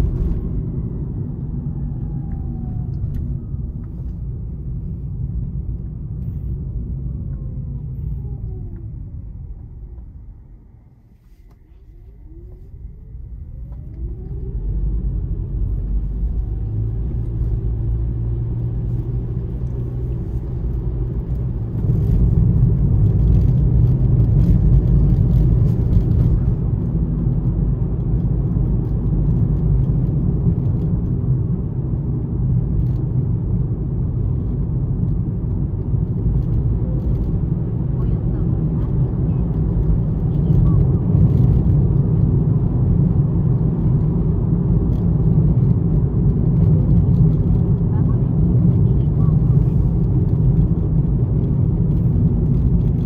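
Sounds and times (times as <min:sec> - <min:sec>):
car engine rising in pitch: 0:00.0 - 0:53.0
road noise: 0:00.0 - 0:53.0.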